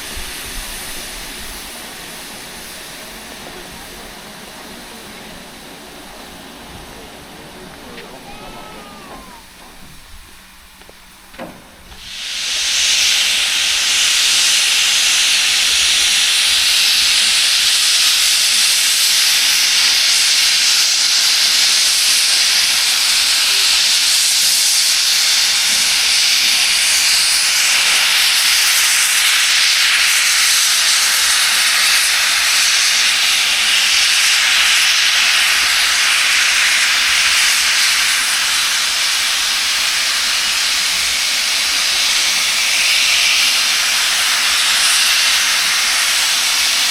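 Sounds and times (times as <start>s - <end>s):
steam locomotive venting steam: 0.0s - 46.9s.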